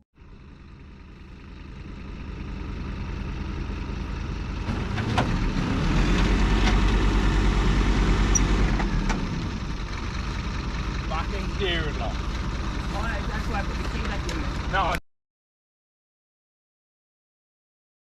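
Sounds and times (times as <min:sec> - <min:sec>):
vehicle engine and road rumble: 0:00.1 - 0:15.0.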